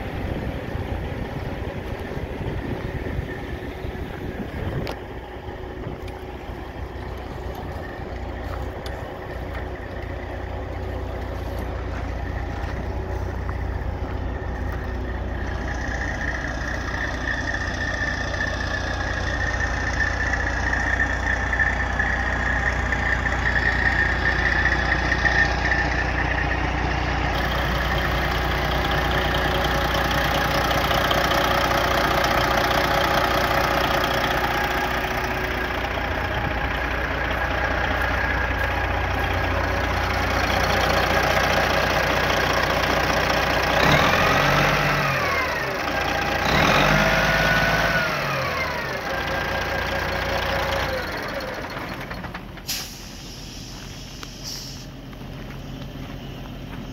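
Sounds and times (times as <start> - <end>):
diesel truck engine idling and revving: 0.0 - 56.9.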